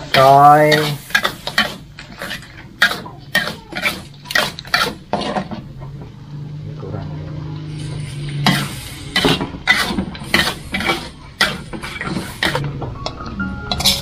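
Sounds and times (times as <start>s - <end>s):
metal spatula scraping wok: 0.0s - 5.8s, 7.5s - 12.7s, 13.7s - 14.0s.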